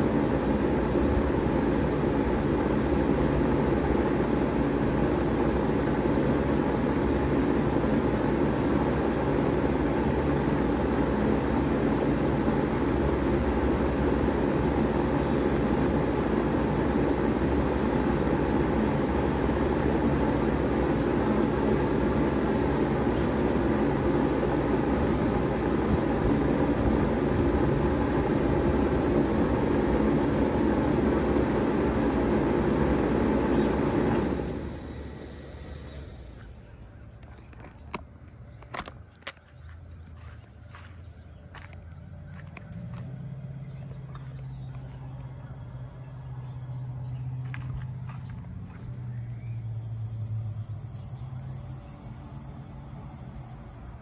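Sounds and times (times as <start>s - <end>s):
heat pump hum and fan noise: 0.0s - 54.0s.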